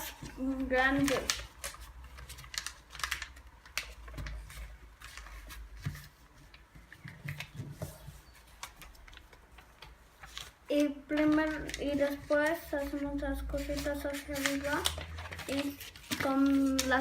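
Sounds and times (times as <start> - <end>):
paper being folded and creased: 0.0 - 17.0.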